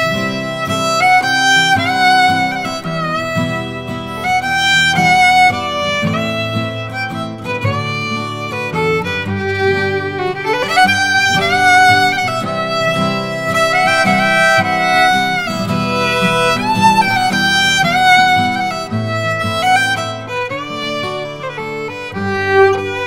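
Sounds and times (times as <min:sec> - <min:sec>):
fiddle playing waltz melody: 0:00.0 - 0:23.0
guitar accompaniment: 0:00.0 - 0:23.0.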